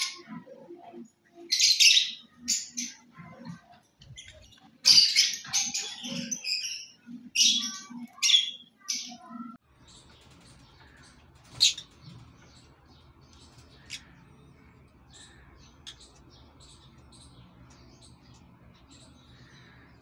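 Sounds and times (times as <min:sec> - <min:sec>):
lovebirds chirping and squawking: 0:00.0 - 0:20.0.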